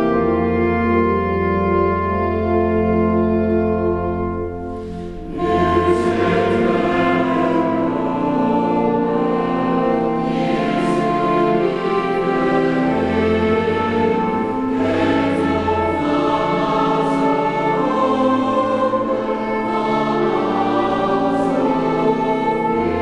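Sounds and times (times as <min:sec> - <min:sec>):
choir singing long chords: 0:00.0 - 0:23.0.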